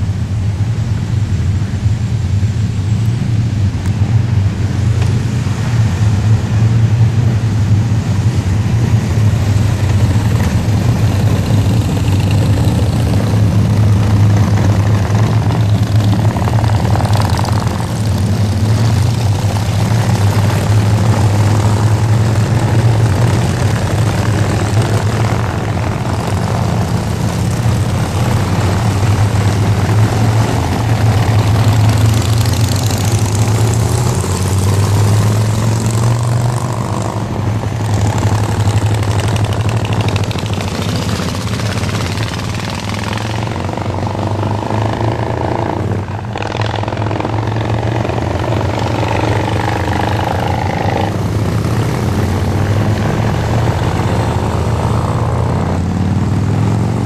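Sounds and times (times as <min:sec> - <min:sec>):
motorcycle engines rumbling past: 0:00.0 - 0:57.0.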